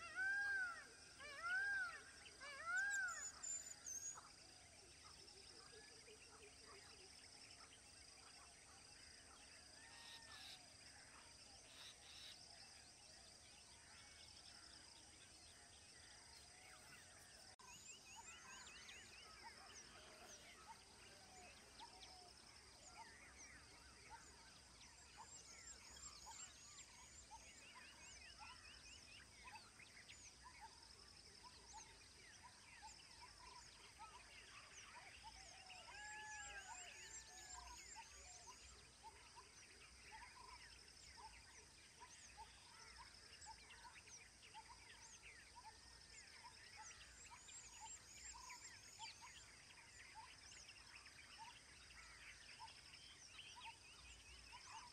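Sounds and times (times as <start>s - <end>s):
wild birds chirping and trilling: 0.0s - 54.9s.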